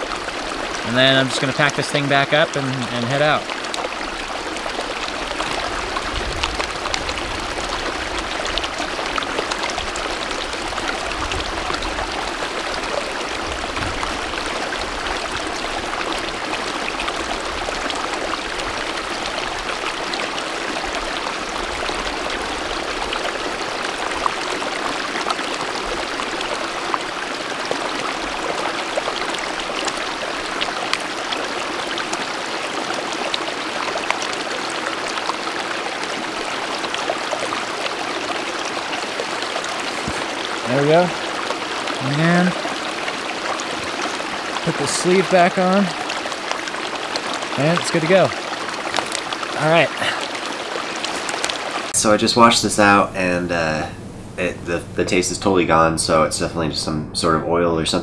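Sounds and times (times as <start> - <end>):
stream running over rocks: 0.0 - 53.8.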